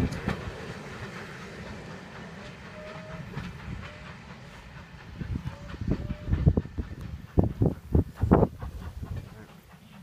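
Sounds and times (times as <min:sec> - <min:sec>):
train wheels rumbling and clacking: 0:00.0 - 0:10.0.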